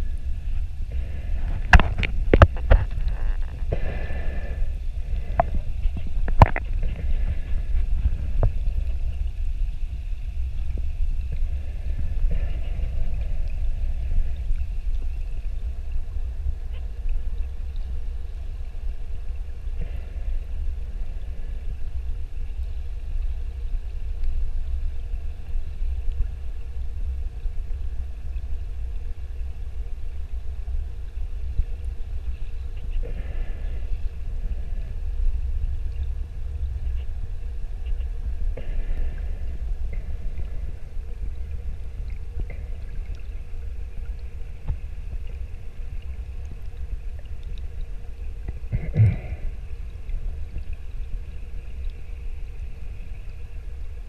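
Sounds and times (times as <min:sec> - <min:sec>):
low underwater rumble: 0:00.0 - 0:54.0.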